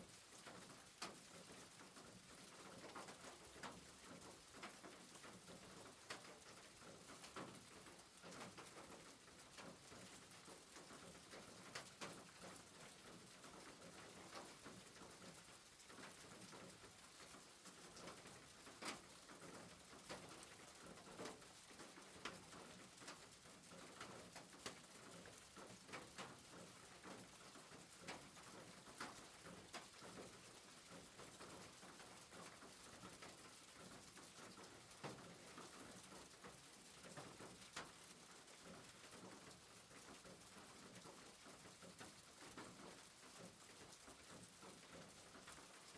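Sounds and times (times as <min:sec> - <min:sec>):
rain falling on a roof: 0:00.0 - 0:45.9.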